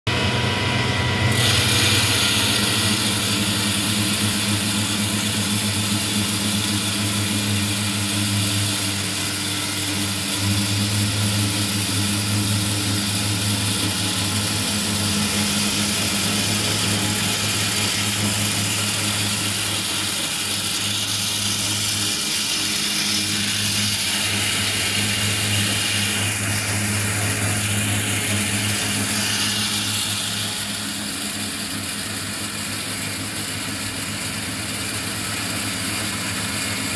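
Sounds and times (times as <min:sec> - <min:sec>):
electric grinder motor hum: 0:00.1 - 0:36.9
hiss of air and grain: 0:01.5 - 0:36.9.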